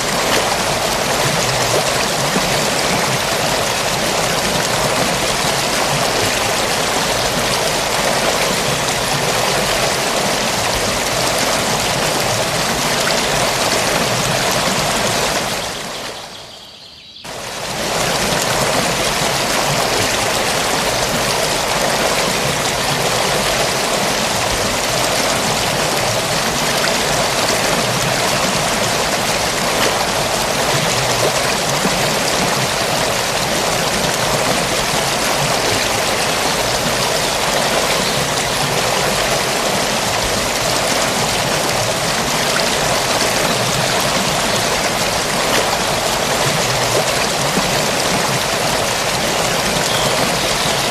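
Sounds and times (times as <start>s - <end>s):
forest stream flowing: 0.0s - 50.9s.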